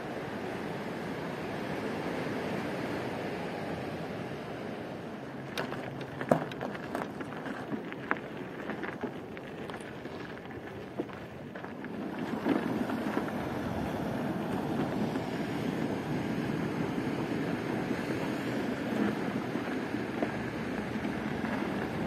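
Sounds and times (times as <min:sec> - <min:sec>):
wind on microphone: 0:02.6 - 0:22.0.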